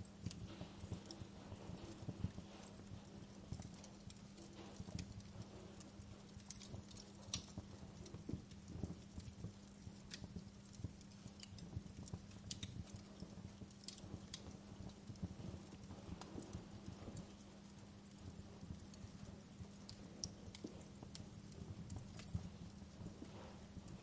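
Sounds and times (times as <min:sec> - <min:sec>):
fire crackling: 0:00.0 - 0:24.0
low steady hum: 0:00.0 - 0:24.0.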